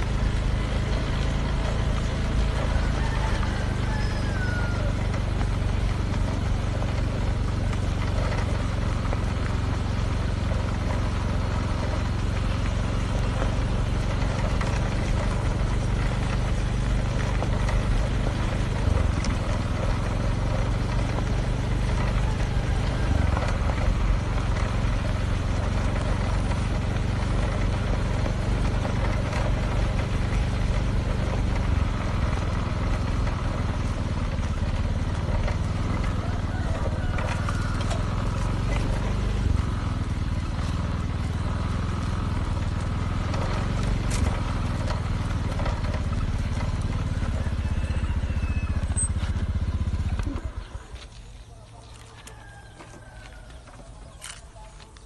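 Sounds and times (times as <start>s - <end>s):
road and wind noise: 0.0s - 55.0s
vehicle engine humming: 0.0s - 55.0s.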